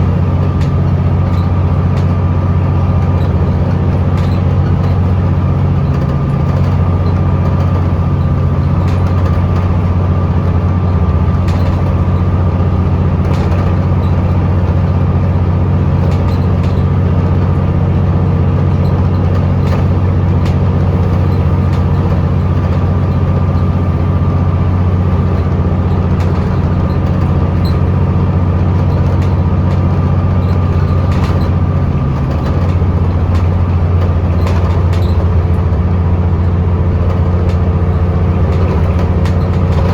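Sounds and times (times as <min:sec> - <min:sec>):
bus diesel engine droning: 0:00.0 - 0:39.9
light clicks and rattles: 0:00.0 - 0:39.9.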